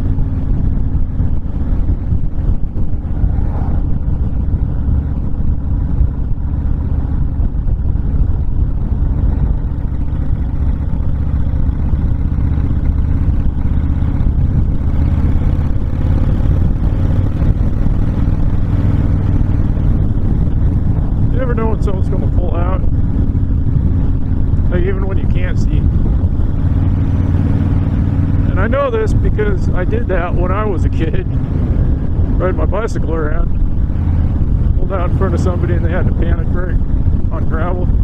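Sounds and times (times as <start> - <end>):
motorcycle engine running: 0.0 - 38.0
wind rushing: 0.0 - 38.0.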